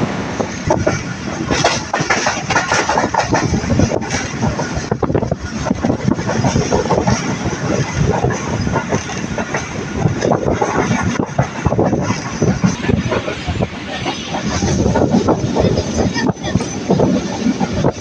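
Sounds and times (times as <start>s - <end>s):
train wheels rumbling on rails: 0.0s - 18.0s
rattling clatter: 0.4s - 18.0s.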